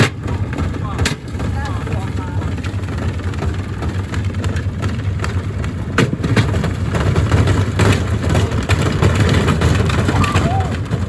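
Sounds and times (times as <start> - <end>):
washing machine rumble: 0.0 - 11.0.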